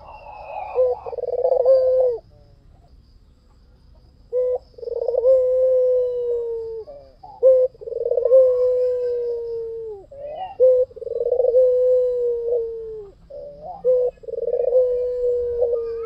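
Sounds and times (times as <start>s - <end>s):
dove cooing: 0.0s - 2.8s, 4.3s - 16.0s.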